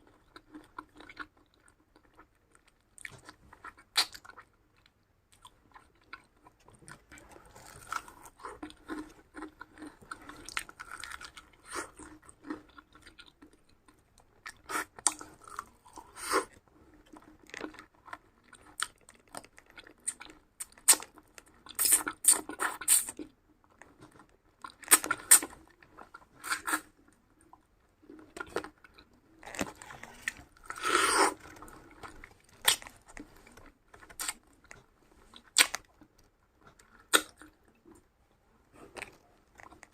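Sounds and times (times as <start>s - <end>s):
person chewing crunchy food: 0.0s - 38.1s, 38.7s - 39.9s.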